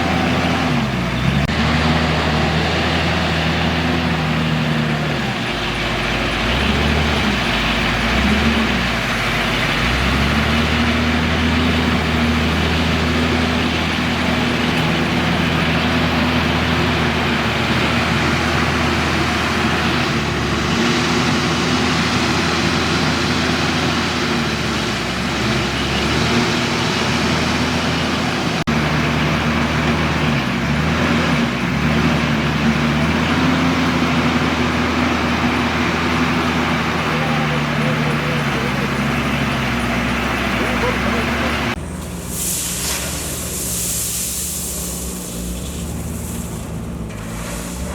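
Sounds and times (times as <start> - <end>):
heavy diesel engine under load: 0.0 - 47.9.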